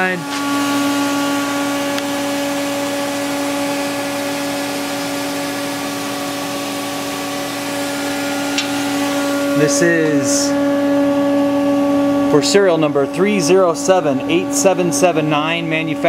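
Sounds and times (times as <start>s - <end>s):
fan noise: 0.0s - 16.0s
lathe machine hum: 0.0s - 16.0s.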